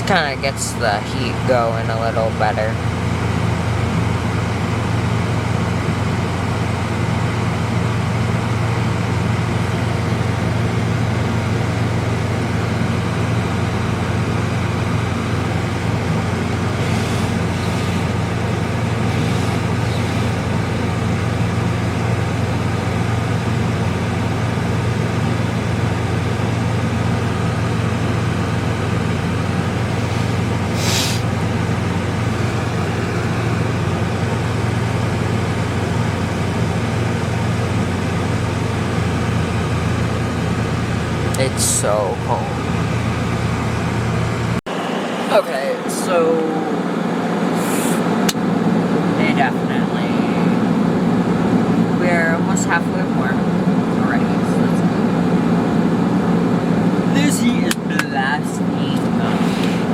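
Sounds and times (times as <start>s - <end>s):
car engine idling: 0.0s - 59.9s
heater fan blowing: 0.0s - 59.9s.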